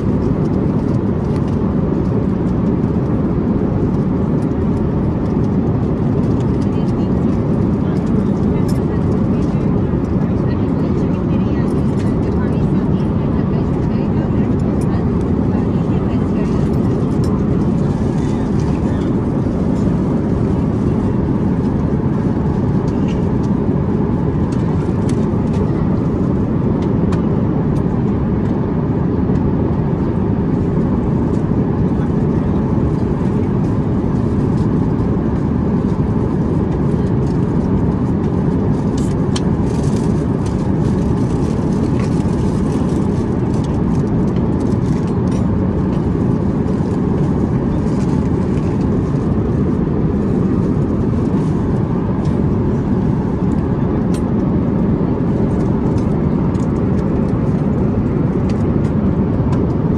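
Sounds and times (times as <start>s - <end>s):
airliner cabin roar: 0.0s - 59.9s.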